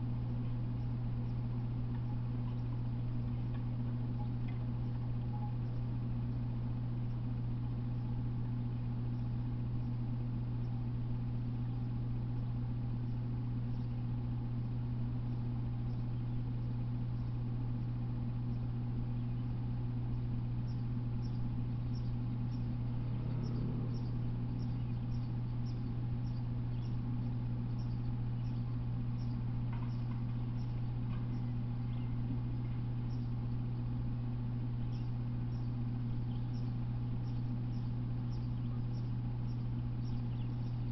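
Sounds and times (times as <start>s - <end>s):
low hum: 0.0s - 40.9s.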